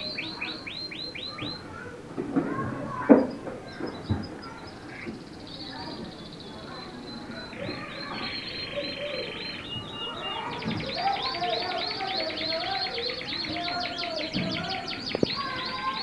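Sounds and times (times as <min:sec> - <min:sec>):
canary singing trills: 0:00.0 - 0:01.9, 0:02.9 - 0:16.0.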